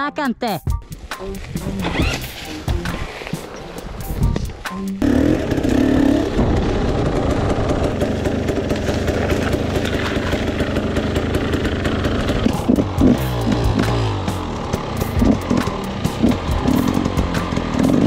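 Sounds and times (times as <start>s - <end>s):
dirt bike engine revving: 1.6s - 3.6s, 4.9s - 18.0s.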